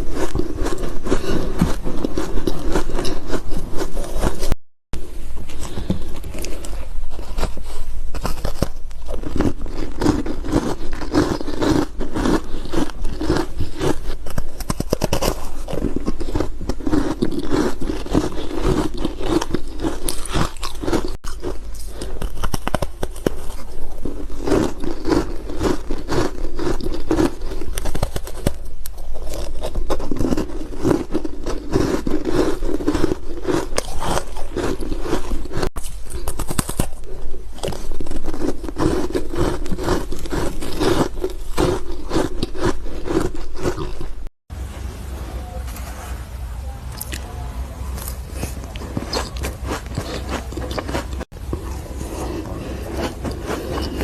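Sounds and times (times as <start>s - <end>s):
ice crunching between teeth: 0.0s - 4.6s, 5.5s - 44.3s, 48.0s - 54.0s.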